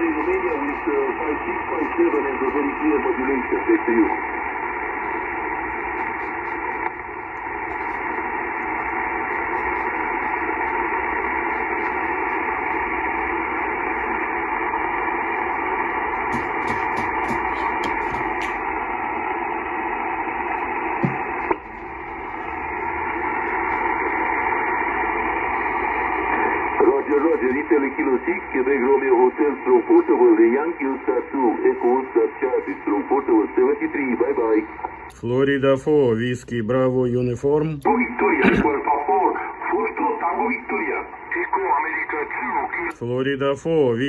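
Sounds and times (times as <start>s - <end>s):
radio band noise hiss: 0.0s - 44.0s.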